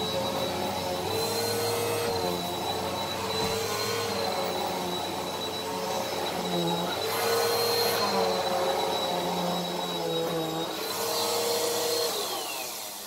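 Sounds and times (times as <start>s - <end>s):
upright vacuum cleaner on carpet: 0.0s - 13.0s.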